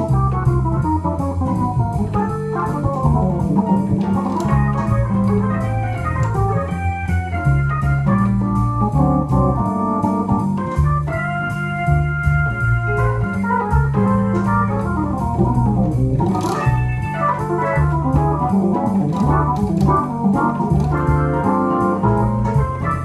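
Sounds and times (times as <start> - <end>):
jazz organ playing swing: 0.0 - 23.0.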